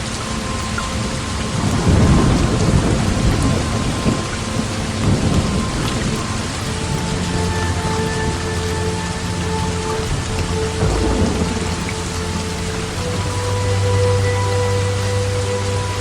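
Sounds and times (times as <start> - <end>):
rolling thunder rumble: 0.0 - 14.2
heavy rain falling: 0.0 - 16.0.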